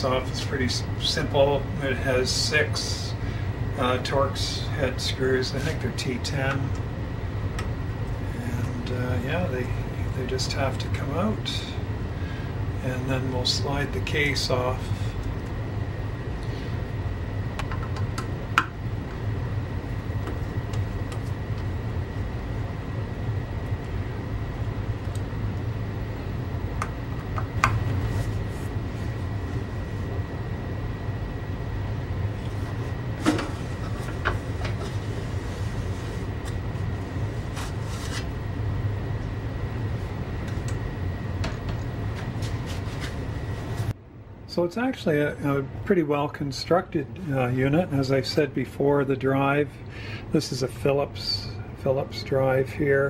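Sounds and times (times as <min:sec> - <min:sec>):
faint high whine: 0:00.0 - 0:53.0
steady low hum: 0:00.0 - 0:53.0.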